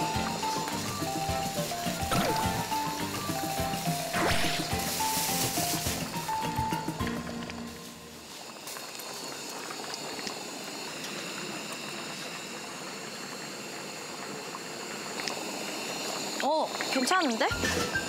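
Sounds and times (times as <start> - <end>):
stew boiling and bubbling: 0.0 - 18.0.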